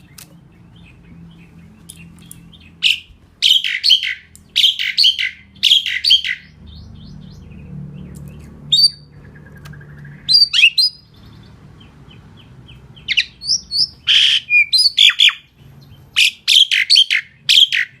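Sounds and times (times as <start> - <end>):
starling calling: 0.0 - 18.0.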